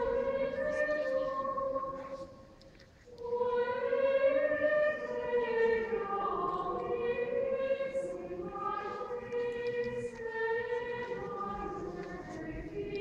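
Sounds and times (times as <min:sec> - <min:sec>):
choir singing chant in unison: 0:00.0 - 0:02.4, 0:03.1 - 0:13.0.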